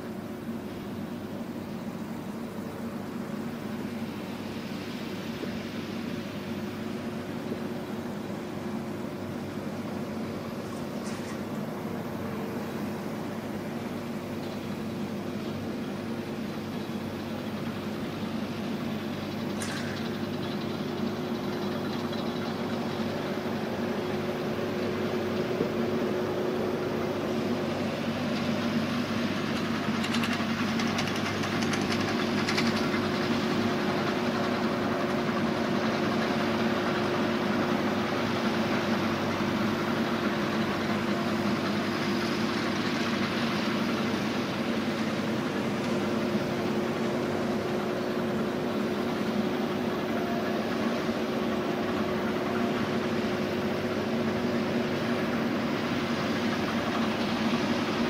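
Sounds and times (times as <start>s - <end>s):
baler machinery running: 0.0s - 58.0s
tractor diesel engine under load: 0.0s - 58.0s.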